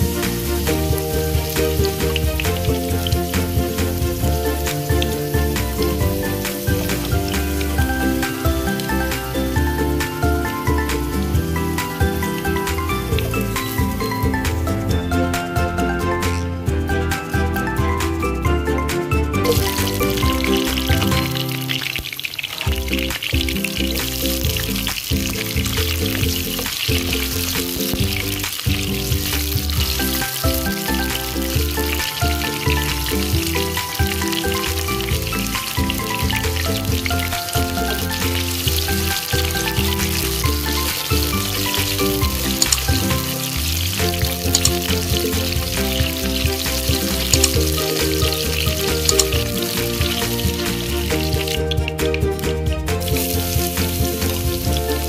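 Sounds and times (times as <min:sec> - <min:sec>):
pepper sizzling in oil: 0:00.0 - 0:14.5, 0:19.4 - 0:55.0
background music: 0:00.0 - 0:55.0.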